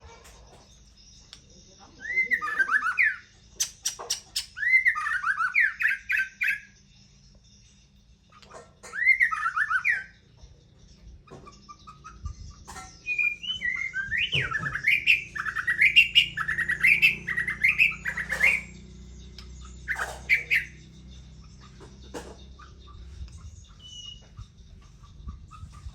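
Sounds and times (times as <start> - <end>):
bird singing whistled notes: 0.8 - 25.9.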